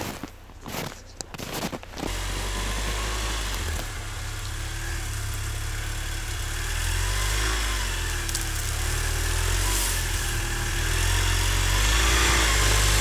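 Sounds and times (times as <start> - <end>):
vehicle engine rumbling and revving: 0.0 - 13.0.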